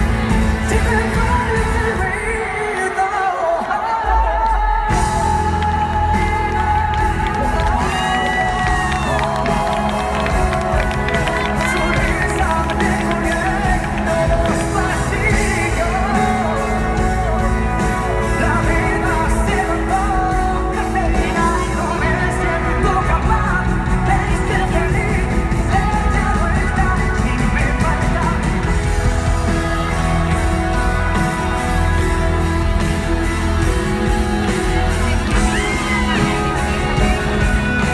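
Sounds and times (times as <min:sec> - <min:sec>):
live pop-rock band playing: 0:00.0 - 0:37.9
male lead singer: 0:00.0 - 0:37.9.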